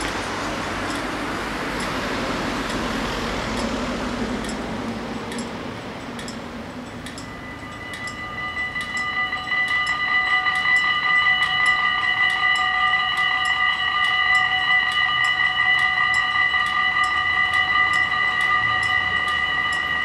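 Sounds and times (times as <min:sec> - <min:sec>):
level crossing warning bells: 0:00.0 - 0:20.0
road traffic: 0:00.0 - 0:20.0.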